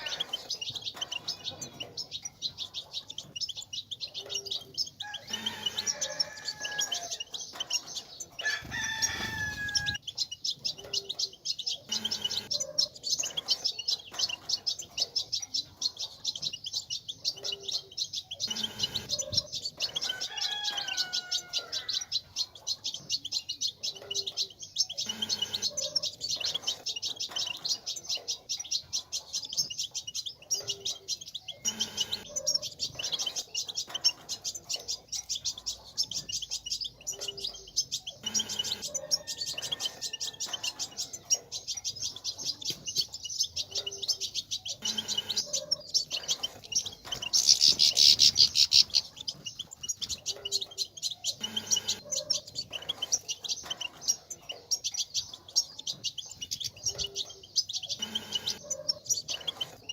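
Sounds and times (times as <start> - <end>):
finch twittering: 0.0 - 59.9.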